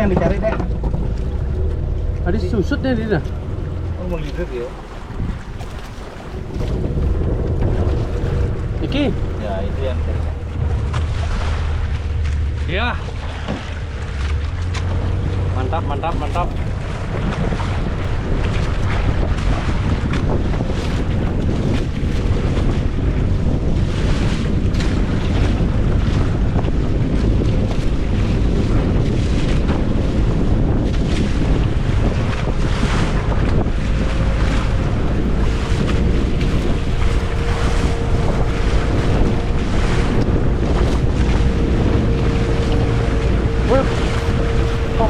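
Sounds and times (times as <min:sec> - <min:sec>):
sea water washing around boat: 0:00.0 - 0:45.0
wind buffeting microphone: 0:00.0 - 0:45.0.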